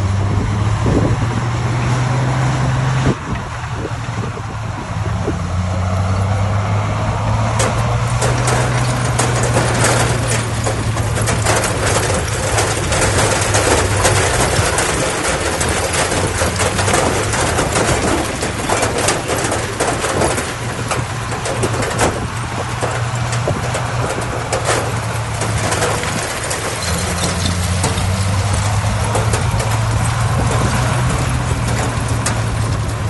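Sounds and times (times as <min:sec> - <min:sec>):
diesel engine droning: 0:00.0 - 0:33.0
machinery clanks and rattles: 0:03.0 - 0:33.0.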